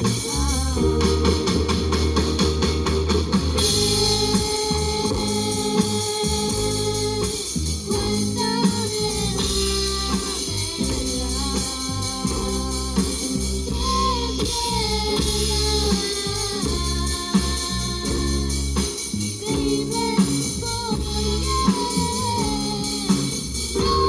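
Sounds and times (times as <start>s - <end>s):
band with guitar bass and drums: 0.0s - 24.0s
sliding lead melody: 0.0s - 24.0s.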